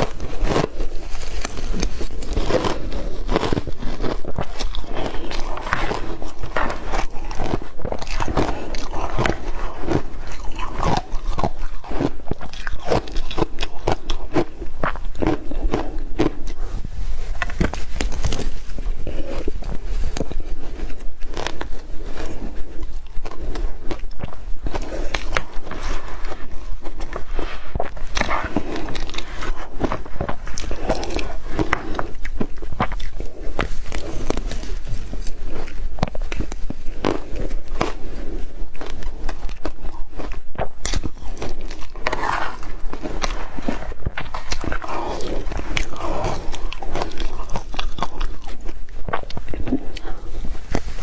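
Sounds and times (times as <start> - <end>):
mouth crunching ice: 0.0 - 51.0.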